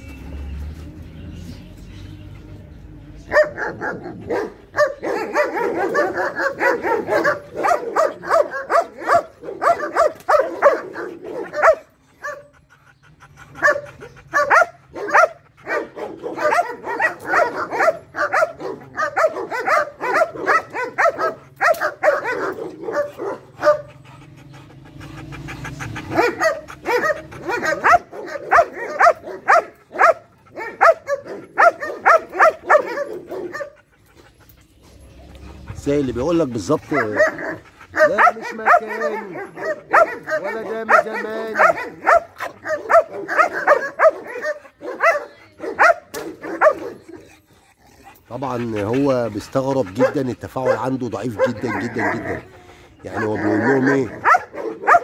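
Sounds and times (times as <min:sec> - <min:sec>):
dog barking rapidly: 0:03.3 - 0:12.4, 0:13.6 - 0:24.0, 0:25.6 - 0:33.8, 0:36.4 - 0:47.2, 0:48.4 - 0:52.4, 0:53.1 - 0:55.0.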